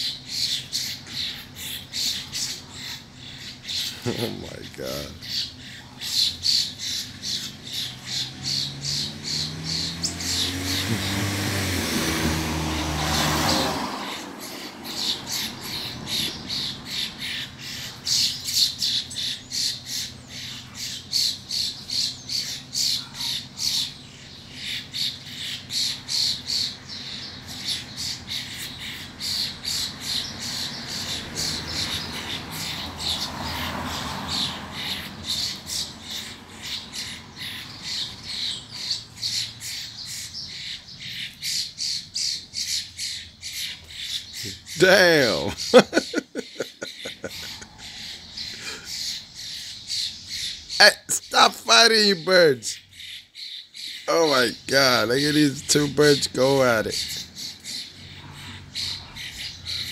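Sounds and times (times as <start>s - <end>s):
birds squawking harshly: 0.0s - 59.9s.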